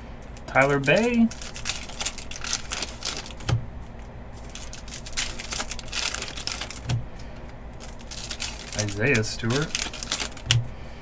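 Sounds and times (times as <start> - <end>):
cards rustling and clicking: 0.3 - 10.7.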